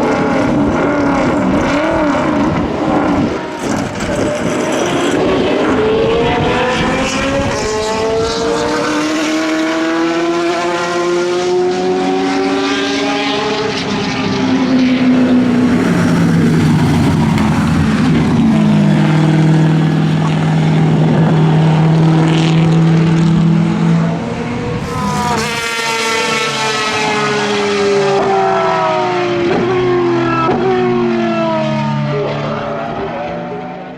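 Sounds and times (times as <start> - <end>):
racing cars passing: 0.0 - 33.9.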